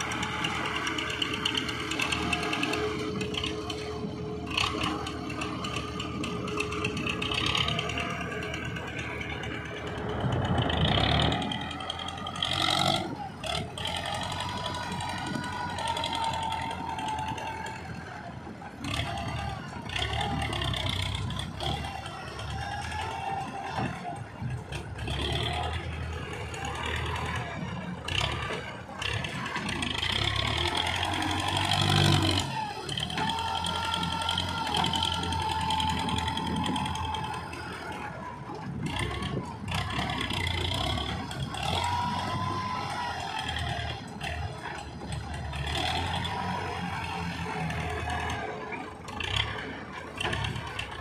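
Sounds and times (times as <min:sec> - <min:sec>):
tractor engine under load: 0:00.0 - 0:51.0.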